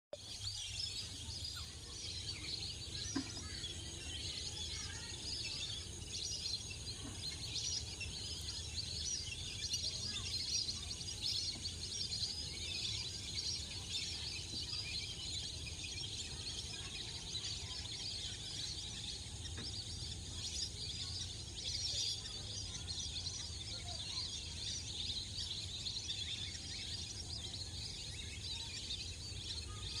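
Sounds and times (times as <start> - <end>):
night insects chirping: 0.6 - 29.9.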